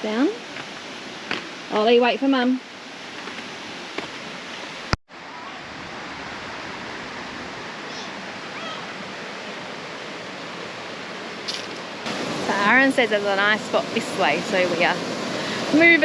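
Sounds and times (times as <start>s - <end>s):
waterfall and creek rushing: 0.0s - 16.0s.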